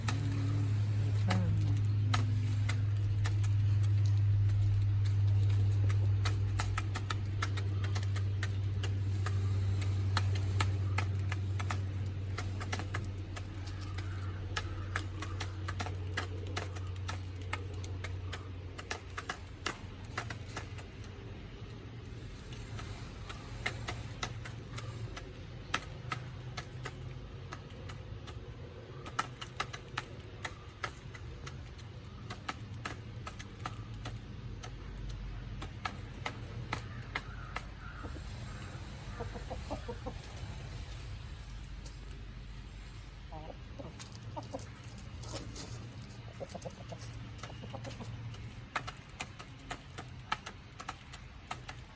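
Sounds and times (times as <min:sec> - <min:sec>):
chickens pecking at feed: 0:00.0 - 0:51.9
steady low hum: 0:00.0 - 0:51.9.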